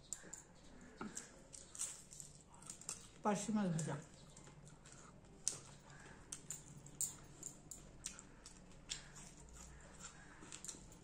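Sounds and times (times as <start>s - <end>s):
chewing fried fish: 0.1s - 11.0s.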